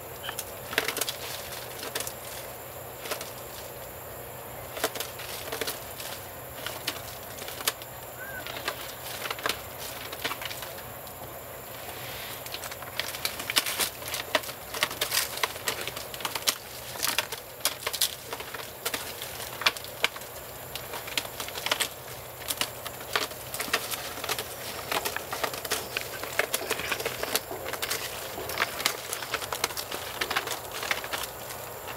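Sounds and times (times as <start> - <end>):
termite nest crackling and crunching: 0.0 - 31.9.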